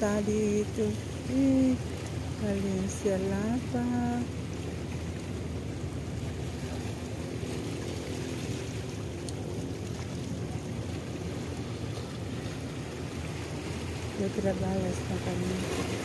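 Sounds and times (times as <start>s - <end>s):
ship engines rumbling: 0.0s - 16.0s.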